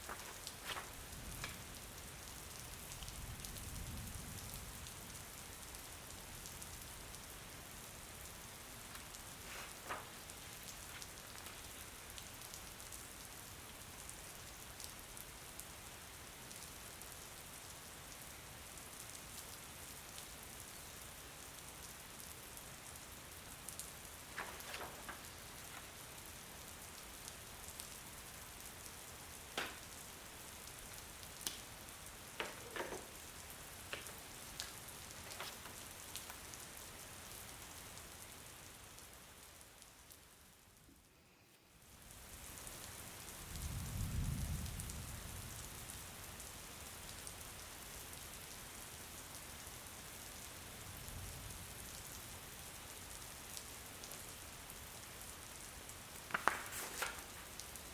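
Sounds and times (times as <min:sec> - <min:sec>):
rain ticks and taps: 0:00.0 - 0:41.1, 0:41.9 - 0:57.9
rain falling: 0:00.0 - 0:57.9.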